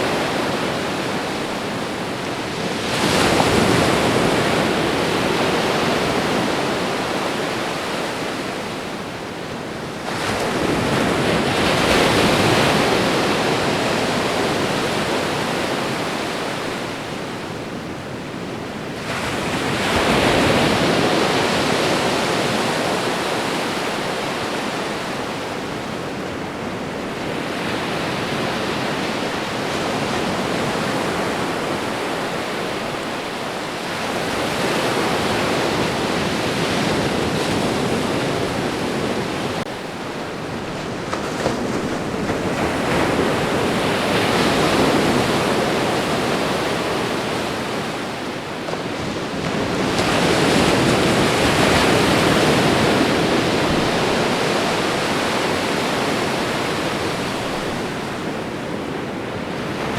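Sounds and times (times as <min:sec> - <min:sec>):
ocean surf breaking on shore: 0:00.0 - 0:59.9.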